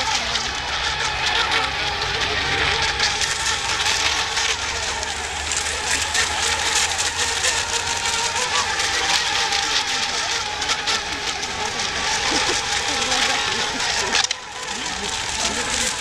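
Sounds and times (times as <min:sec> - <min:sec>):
racing boat motors whining: 0:00.0 - 0:16.0.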